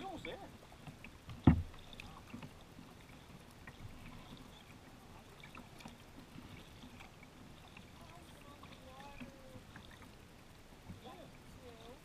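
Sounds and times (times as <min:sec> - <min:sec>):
paddle drips and splashes: 0:00.0 - 0:12.0.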